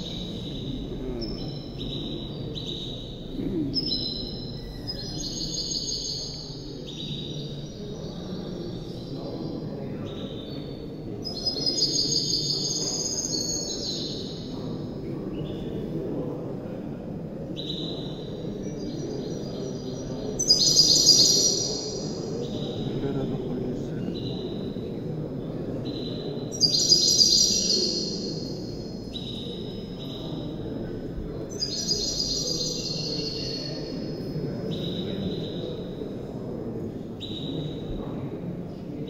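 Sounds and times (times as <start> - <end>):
songbird singing: 0.0 - 39.0.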